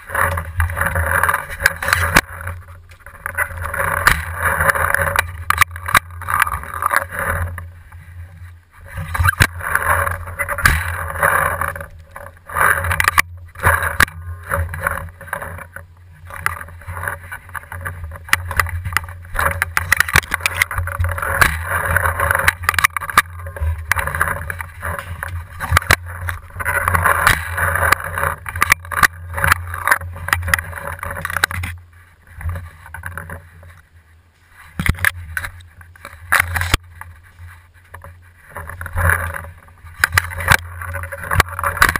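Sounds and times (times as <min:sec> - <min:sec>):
scraping noise: 0:00.0 - 0:41.9
steady low hum: 0:00.0 - 0:41.9.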